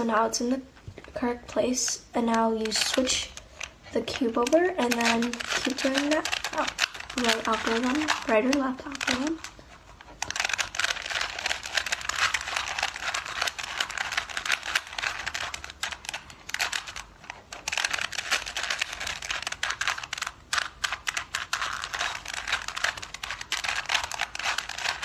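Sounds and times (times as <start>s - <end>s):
puzzle cube plastic clicks: 0.0s - 25.0s.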